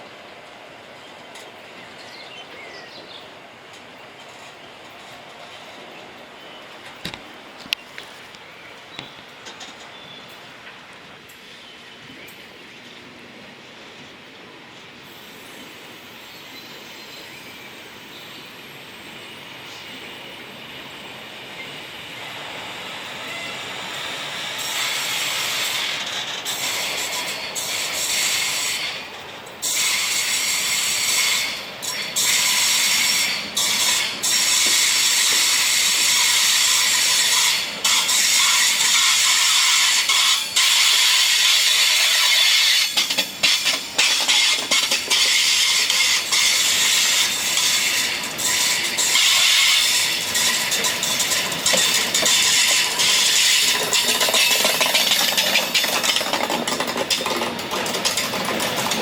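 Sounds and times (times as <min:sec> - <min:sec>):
train wheels squealing on rails: 0:00.0 - 0:59.0.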